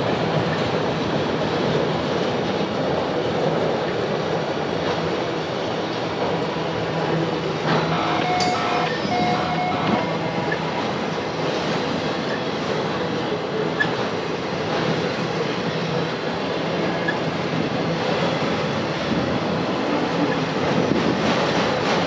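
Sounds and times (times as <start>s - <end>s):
freight cars rumbling on rails: 0.0s - 22.0s.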